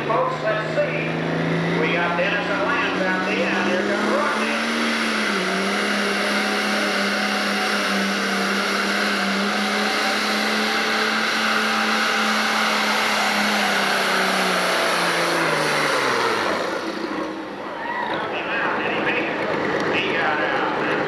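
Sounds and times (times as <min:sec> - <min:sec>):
diesel engine at high revs: 0:00.0 - 0:21.0.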